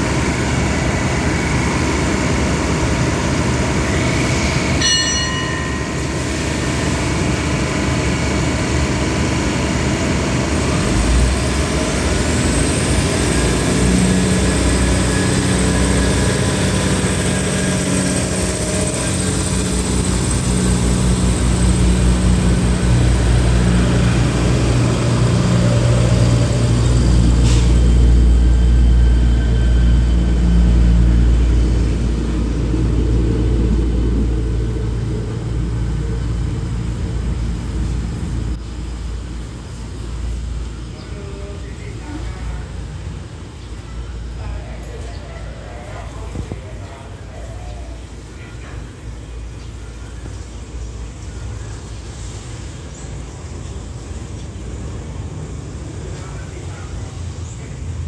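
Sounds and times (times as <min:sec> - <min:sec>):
diesel train running: 0:00.0 - 0:58.0.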